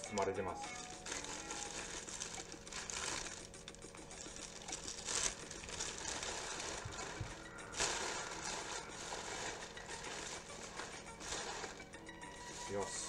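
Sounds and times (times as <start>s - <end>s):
wrapping paper rustling and crinkling: 0.0s - 13.0s.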